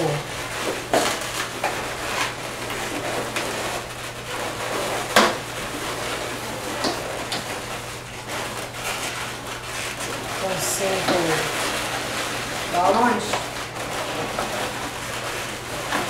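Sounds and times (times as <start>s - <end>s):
balloons rubbing and squeaking: 1.2s - 16.0s.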